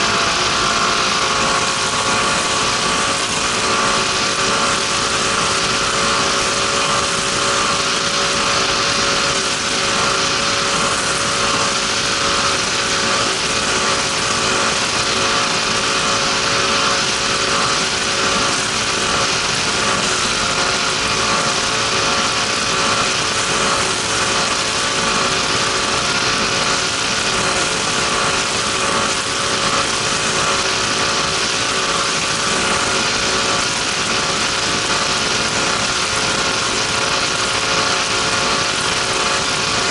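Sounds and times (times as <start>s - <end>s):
power boat engine running: 0.0s - 39.9s.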